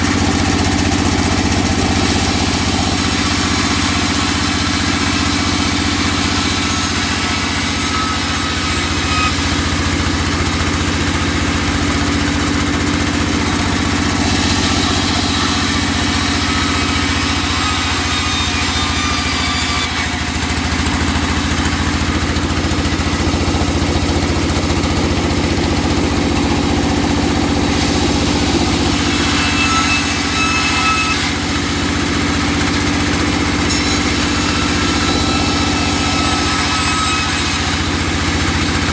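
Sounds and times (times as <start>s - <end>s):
sawmill machinery sawing wood: 0.0s - 38.9s.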